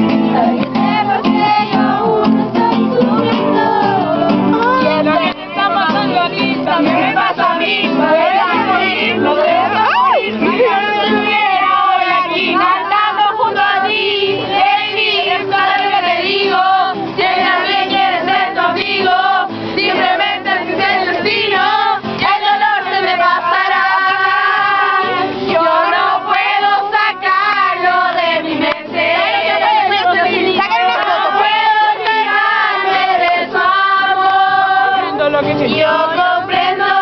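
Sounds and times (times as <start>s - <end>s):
young voices singing together: 0.0s - 37.0s.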